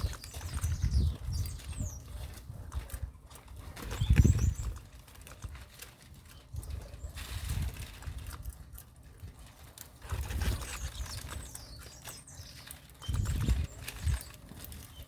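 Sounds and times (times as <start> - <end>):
birds chirping: 0.0 - 8.3, 9.2 - 15.0.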